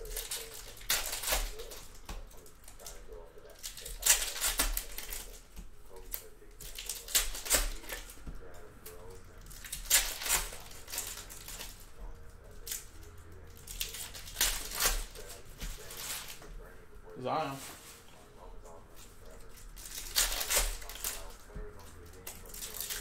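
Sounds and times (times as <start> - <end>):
cards being handled: 0.0 - 16.6, 17.5 - 23.0
foil wrappers crinkling and tearing: 0.0 - 16.8, 17.5 - 23.0.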